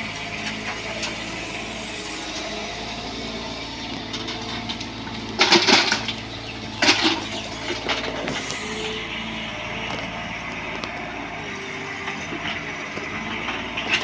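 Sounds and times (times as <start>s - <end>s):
diesel engine running: 0.0s - 14.0s
excavator scraping ground: 0.0s - 14.0s.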